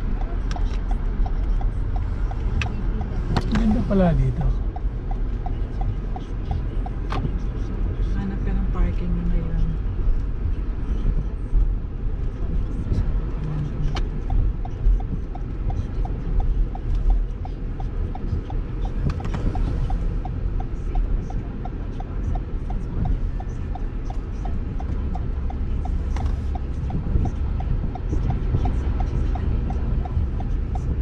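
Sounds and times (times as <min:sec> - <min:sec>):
car cabin rumble: 0:00.0 - 0:31.0
turn signal ticking: 0:00.0 - 0:31.0.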